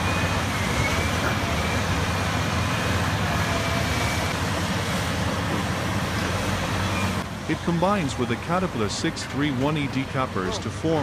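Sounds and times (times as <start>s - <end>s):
bulldozer diesel engine under load: 0.0s - 11.0s.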